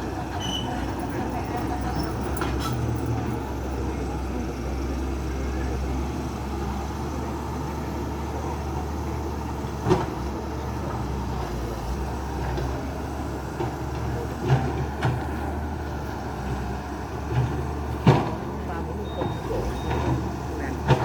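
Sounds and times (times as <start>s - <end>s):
vehicle engines humming: 0.0s - 21.0s.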